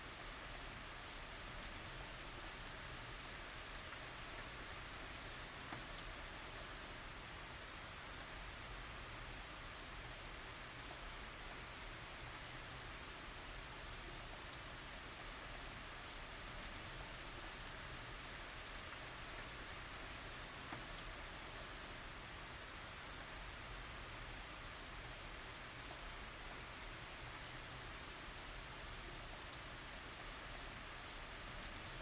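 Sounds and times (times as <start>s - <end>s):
rain falling on surfaces: 0.0s - 32.0s.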